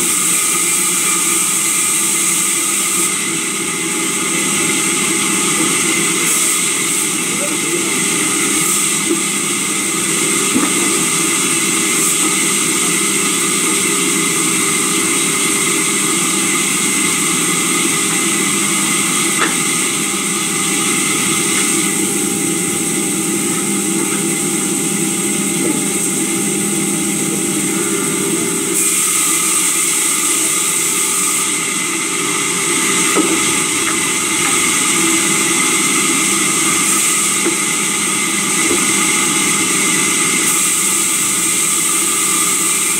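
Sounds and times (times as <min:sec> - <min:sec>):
sawmill saw cutting timber: 0:00.0 - 0:42.9.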